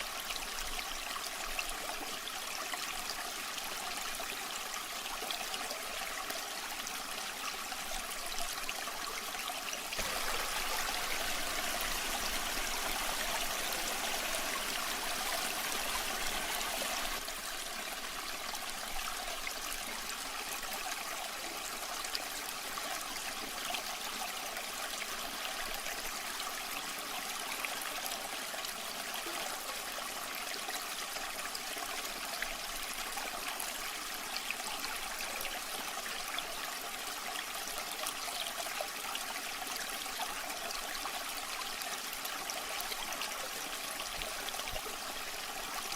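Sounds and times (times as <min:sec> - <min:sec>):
waterfall running and splashing: 0:03.0 - 0:38.0, 0:38.9 - 0:45.9.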